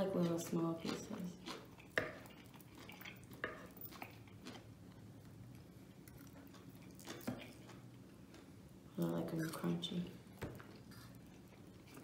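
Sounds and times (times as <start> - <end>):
faint chewing: 0.0 - 12.0.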